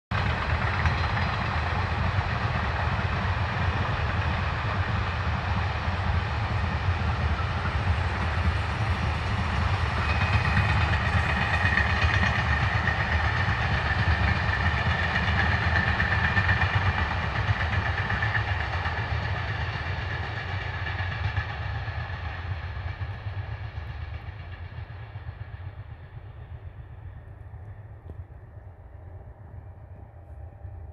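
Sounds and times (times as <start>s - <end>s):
freight train rumbling past: 0.1s - 30.9s.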